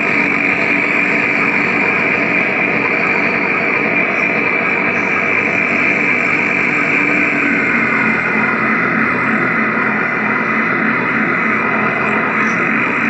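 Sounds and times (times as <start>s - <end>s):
electronic guitar noise drone: 0.0s - 13.0s.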